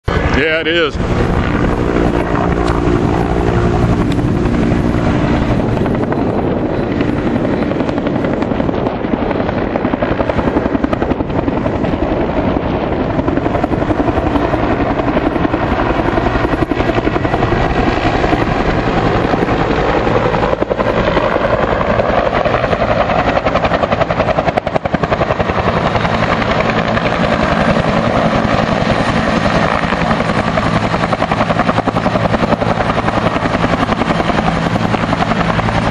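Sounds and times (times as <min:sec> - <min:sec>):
helicopter rotor beating: 0:00.0 - 0:35.9.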